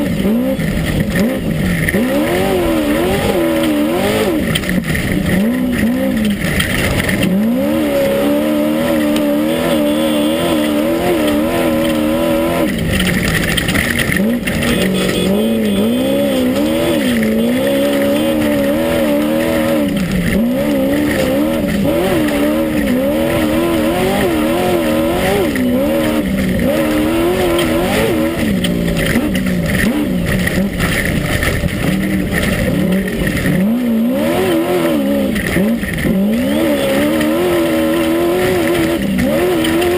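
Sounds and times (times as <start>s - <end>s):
race buggy engine revving: 0.0s - 39.9s.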